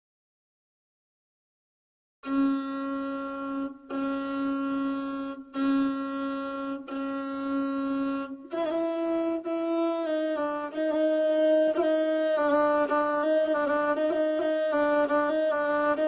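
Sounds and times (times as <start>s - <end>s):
bowed single-string folk instrument: 2.2s - 16.0s.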